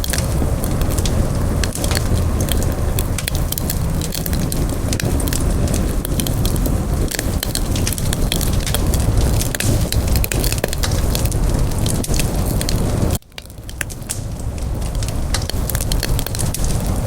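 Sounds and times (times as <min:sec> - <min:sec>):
campfire roar: 0:00.0 - 0:17.0
crackles and pops of burning wood: 0:00.0 - 0:17.0.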